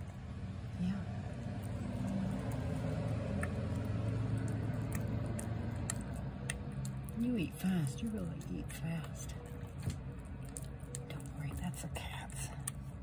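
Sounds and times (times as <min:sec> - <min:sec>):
cat chewing and lapping food: 0:00.0 - 0:13.0
steady low hum: 0:00.0 - 0:13.0.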